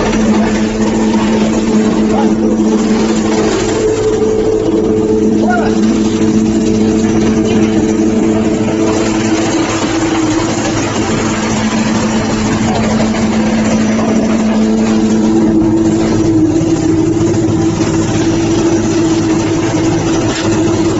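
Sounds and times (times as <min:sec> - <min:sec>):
hay grinding machine running: 0:00.0 - 0:20.9.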